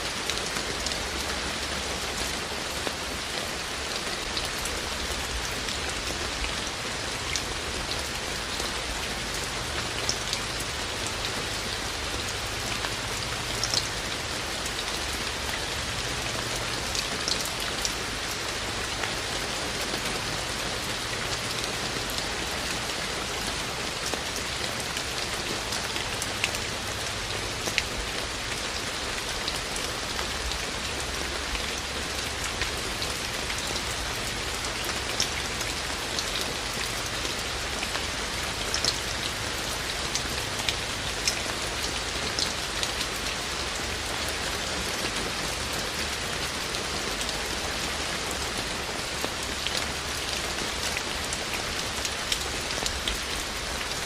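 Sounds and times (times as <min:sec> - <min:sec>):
raindrops ticking on surfaces: 0:00.0 - 0:54.0.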